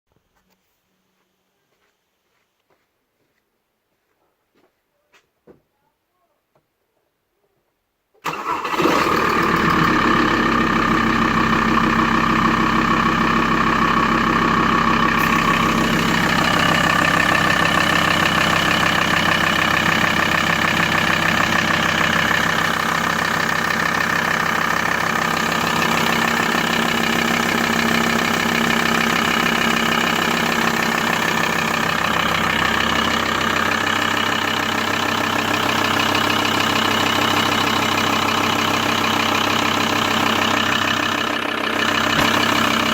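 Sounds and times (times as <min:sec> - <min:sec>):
diesel engine idling: 0:08.2 - 0:42.9.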